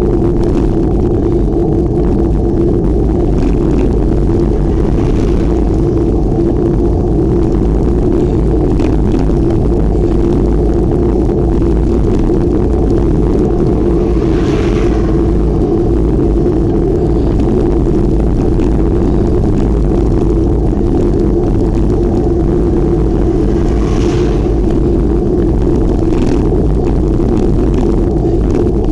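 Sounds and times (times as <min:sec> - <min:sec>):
wind rumble on microphone: 0:00.0 - 0:28.9.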